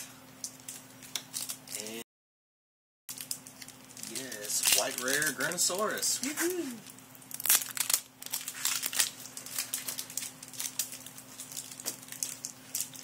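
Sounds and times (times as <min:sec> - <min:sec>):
foil wrappers crinkling: 0:00.0 - 0:01.9, 0:03.1 - 0:13.0.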